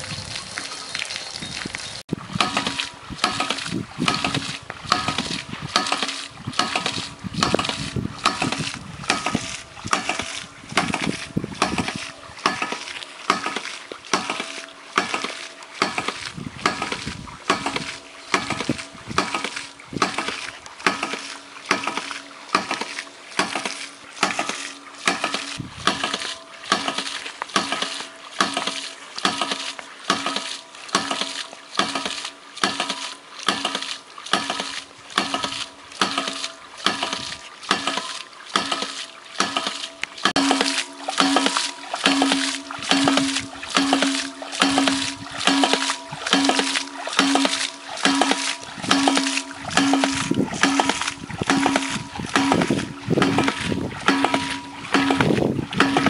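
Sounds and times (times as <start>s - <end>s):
water spurting: 0.0s - 56.0s
pump valve slamming shut: 2.4s - 56.0s.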